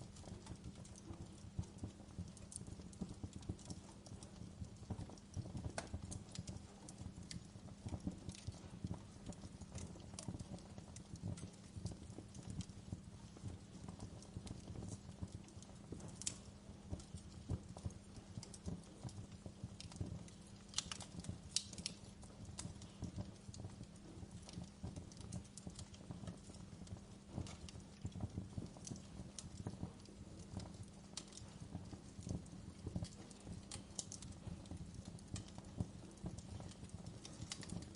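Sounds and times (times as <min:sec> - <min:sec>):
flames rumbling: 0:00.0 - 0:37.9
wood fire popping and snapping: 0:00.0 - 0:37.9.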